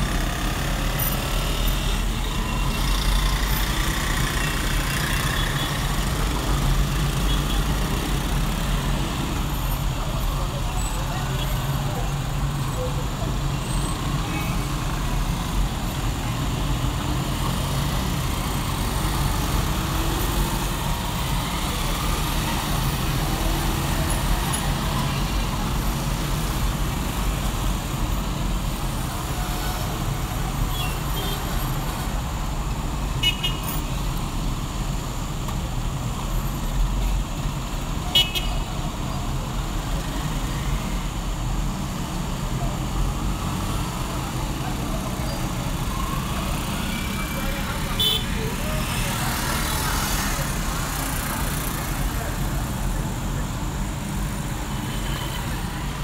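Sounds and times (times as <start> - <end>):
traffic engines rumbling: 0.0 - 56.0.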